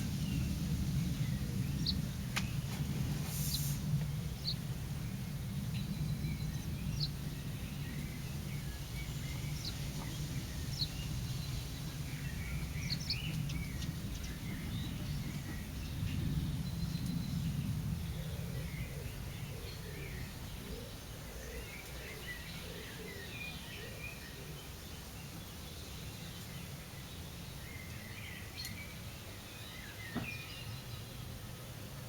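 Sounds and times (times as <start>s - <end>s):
birds chirping and calling: 0.0s - 4.6s, 5.8s - 29.0s
steady low rumble: 0.0s - 29.5s.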